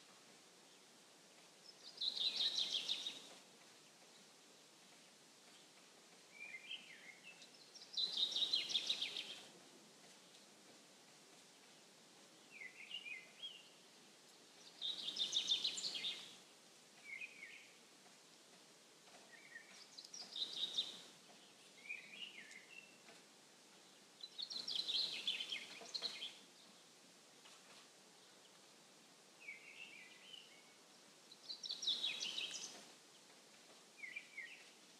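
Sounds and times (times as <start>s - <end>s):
faint steady hiss: 0.0s - 34.9s
small birds twittering: 0.6s - 34.9s.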